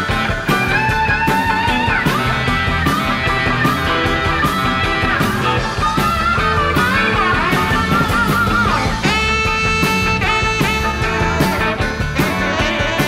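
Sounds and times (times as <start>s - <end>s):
lead guitar bending notes: 0.0s - 13.0s
rock band playing: 0.0s - 13.0s.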